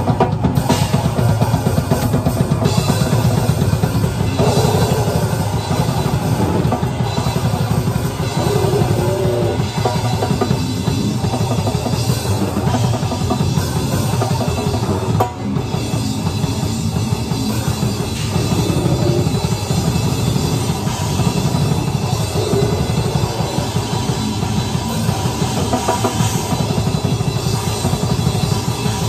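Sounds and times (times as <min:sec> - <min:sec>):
drums and cymbals struck: 0:00.0 - 0:29.0
live rock band playing: 0:00.0 - 0:29.0.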